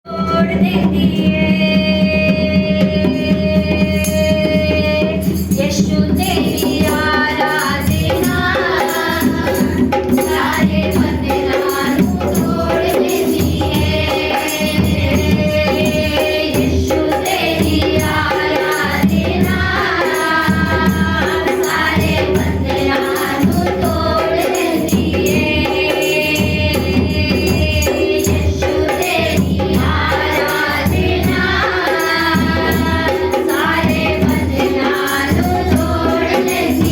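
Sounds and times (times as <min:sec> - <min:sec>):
instrumental accompaniment: 0:00.1 - 0:36.9
group singing worship song: 0:00.2 - 0:36.9.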